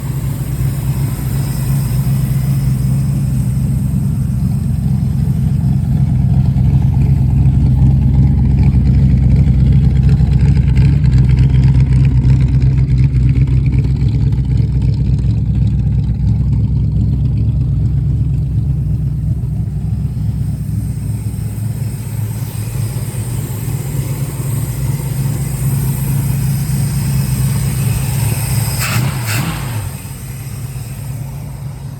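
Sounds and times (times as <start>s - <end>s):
car engine rumbling: 0.0s - 31.9s.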